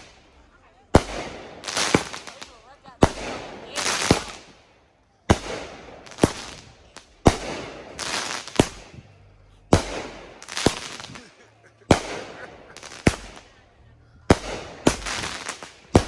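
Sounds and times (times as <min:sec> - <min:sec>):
fireworks hissing crackle: 0:00.0 - 0:13.7, 0:14.3 - 0:16.0
fireworks bangs: 0:00.0 - 0:16.0.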